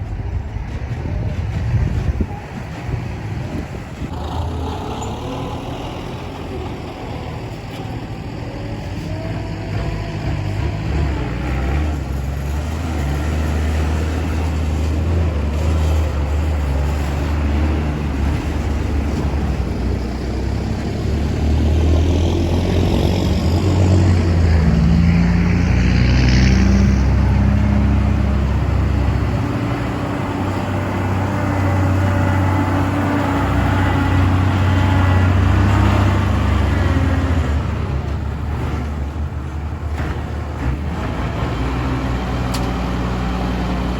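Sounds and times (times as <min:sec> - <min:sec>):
dump trucks driving past: 0:00.0 - 0:43.9.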